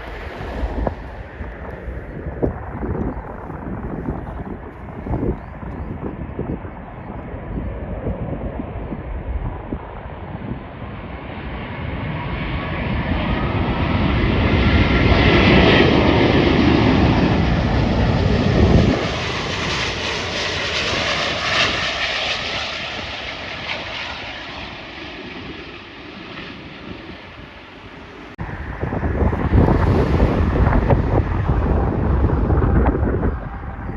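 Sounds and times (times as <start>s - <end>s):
jet airliner passing over: 0.0s - 33.9s
wind buffeting microphone: 0.0s - 33.9s.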